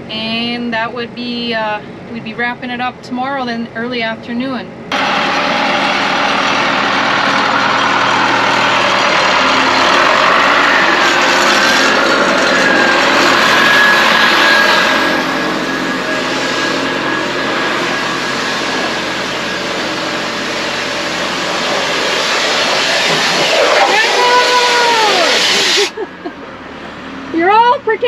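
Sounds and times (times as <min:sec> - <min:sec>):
high whine: 0:04.7 - 0:28.0
engine running: 0:04.8 - 0:28.0.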